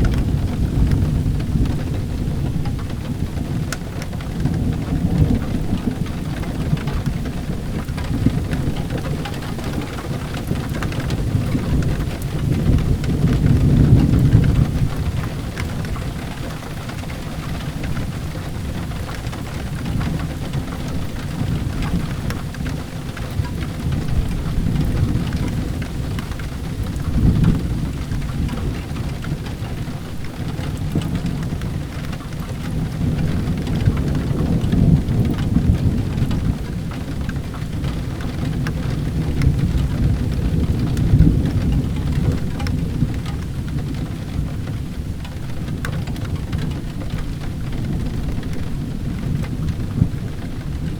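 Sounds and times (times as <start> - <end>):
low rolling thunder: 0.0 - 50.9
steady rain falling: 0.0 - 50.9.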